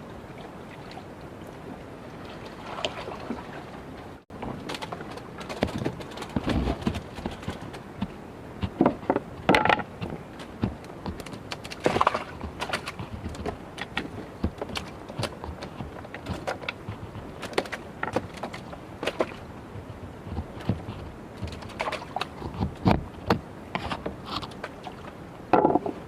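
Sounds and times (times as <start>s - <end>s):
irregular knocks and clatter: 4.3s - 24.8s, 25.5s - 26.0s.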